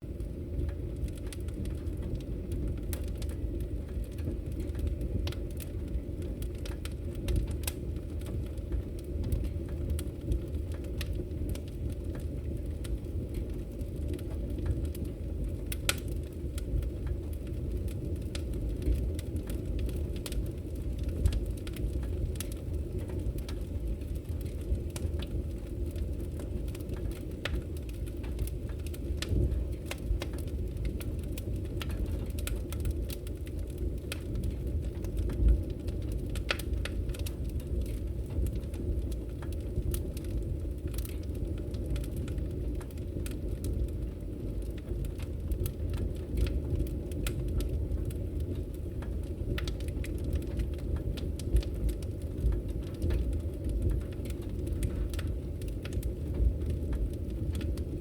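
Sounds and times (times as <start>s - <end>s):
low rumble of burning logs: 0.0s - 58.0s
wood fire crackling: 0.0s - 58.0s.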